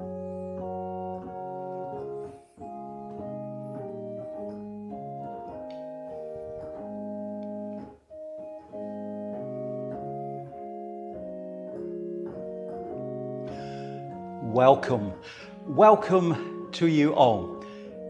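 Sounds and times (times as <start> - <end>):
organ-like keyboard chords: 0.0 - 18.0.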